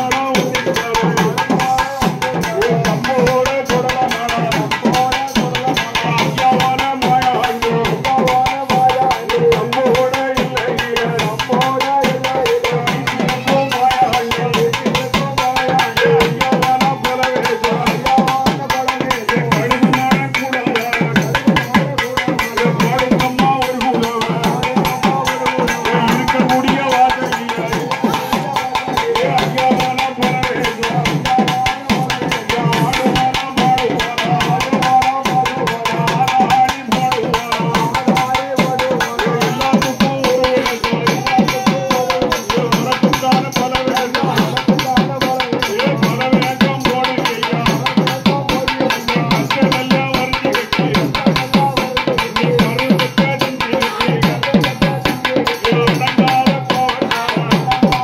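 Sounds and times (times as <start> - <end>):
fast hand-drum rhythm: 0.0 - 58.0.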